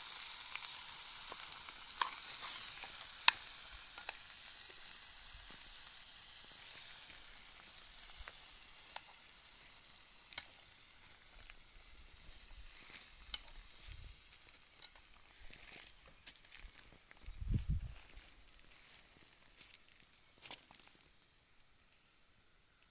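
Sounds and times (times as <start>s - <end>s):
food sizzling in a pan: 0.0s - 22.9s.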